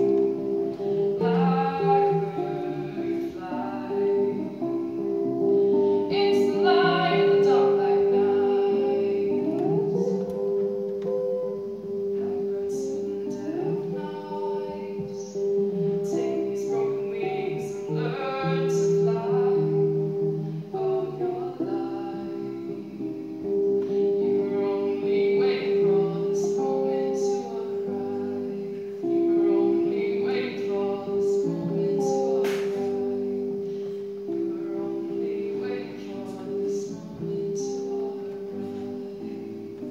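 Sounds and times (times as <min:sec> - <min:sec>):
acoustic guitar: 0:00.0 - 0:39.9
person singing: 0:00.0 - 0:39.9.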